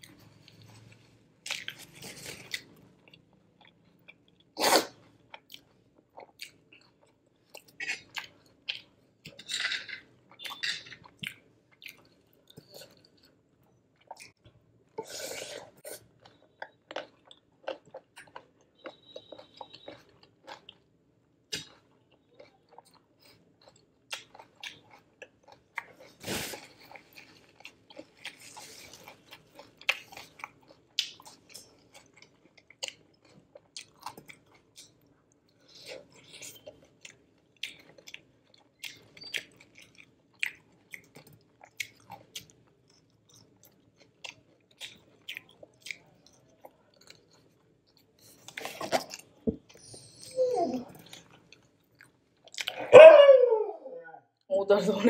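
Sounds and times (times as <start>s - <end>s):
chewing crisp cucumber salad: 0.0s - 9.5s, 10.3s - 14.5s, 15.1s - 49.8s, 50.8s - 52.9s.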